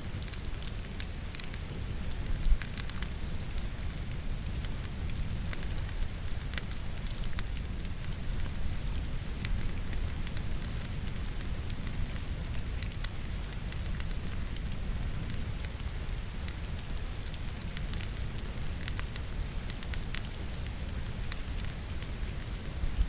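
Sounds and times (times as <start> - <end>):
firewood crackling and popping: 0.0 - 23.0
rain falling: 0.0 - 23.0.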